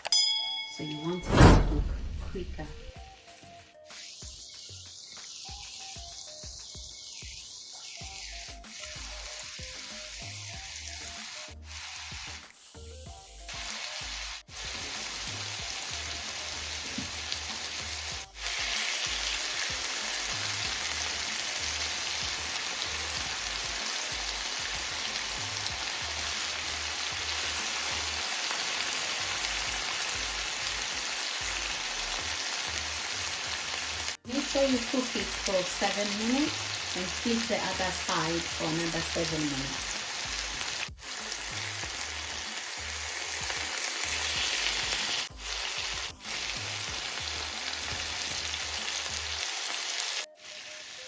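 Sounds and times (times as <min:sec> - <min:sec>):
chicken sizzling in a pan: 0:02.3 - 0:51.0.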